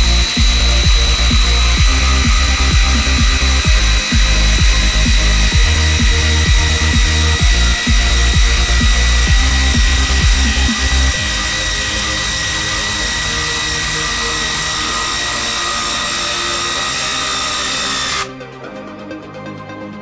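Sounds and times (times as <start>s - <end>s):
impact driver driving screw: 0.0s - 18.3s
electronic dance music: 0.0s - 18.8s.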